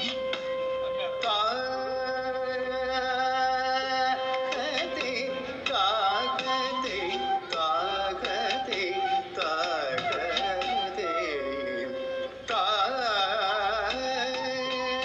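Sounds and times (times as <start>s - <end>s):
song with singing voice: 0.0s - 15.0s.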